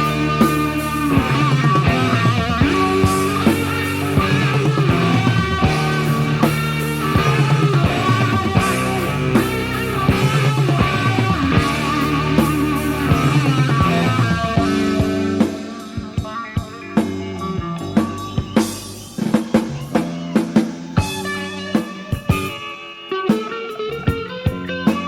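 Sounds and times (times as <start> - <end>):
hard rock band playing: 0.0 - 25.0.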